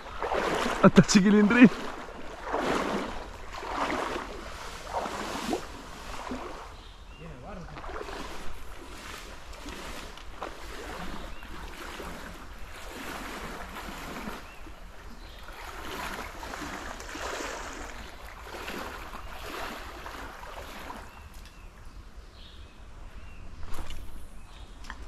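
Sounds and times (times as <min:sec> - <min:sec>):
water splashing and rushing: 0:00.0 - 0:21.4.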